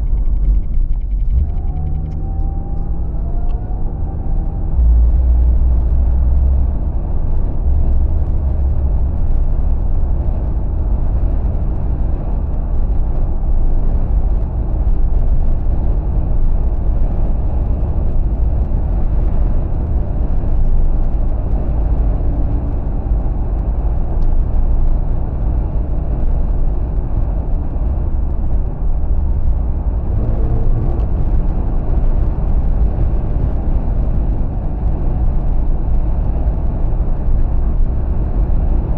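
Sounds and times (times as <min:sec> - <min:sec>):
car road and wind rumble: 0:00.0 - 0:38.9.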